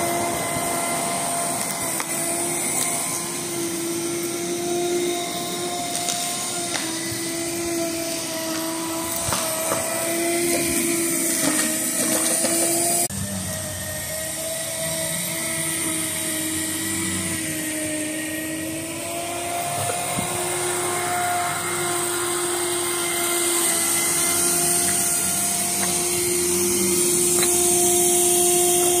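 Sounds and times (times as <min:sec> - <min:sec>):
electric power rake motor whine: 0:00.0 - 0:29.0.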